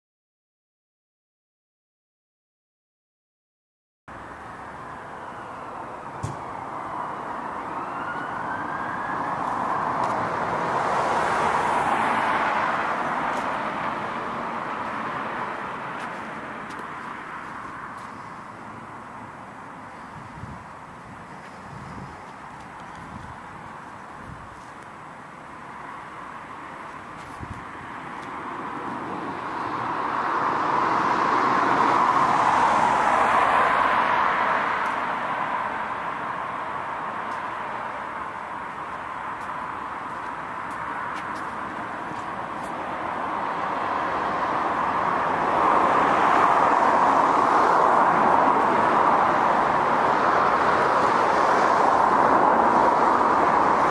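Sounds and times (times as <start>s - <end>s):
road vehicle passing: 4.1s - 53.9s.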